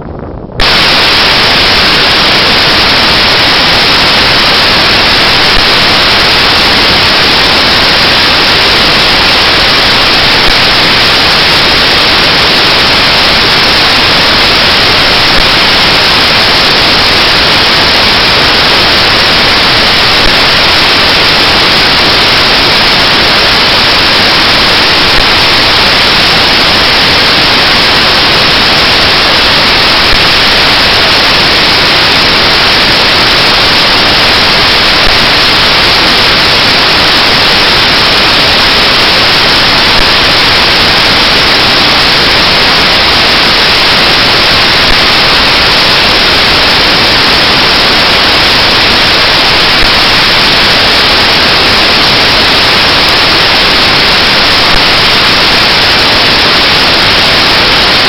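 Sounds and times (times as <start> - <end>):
static hiss: 0.0 - 58.0.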